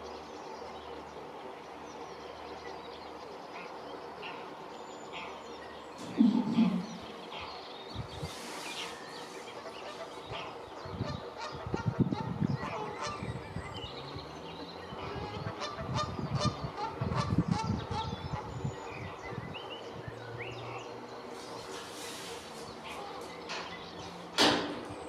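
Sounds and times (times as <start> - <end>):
lower rougher bird calls: 2.7 - 24.3.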